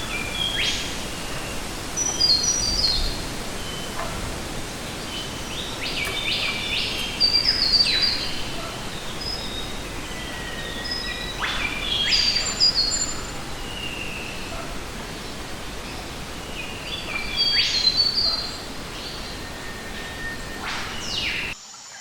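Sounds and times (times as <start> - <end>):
birds chirping: 0.0 - 21.6
forest ambience hiss: 0.0 - 22.0.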